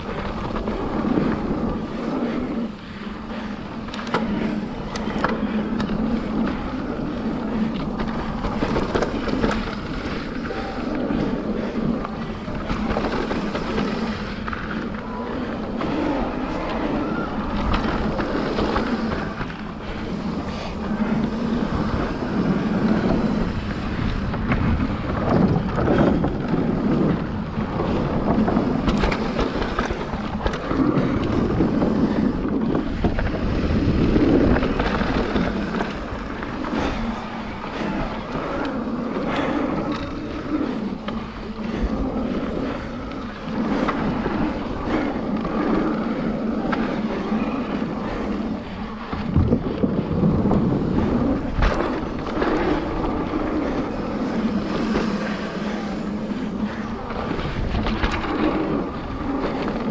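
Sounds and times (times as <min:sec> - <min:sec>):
tyres rushing on dirt: 0:00.0 - 0:59.9
wind buffeting microphone: 0:00.0 - 0:59.9.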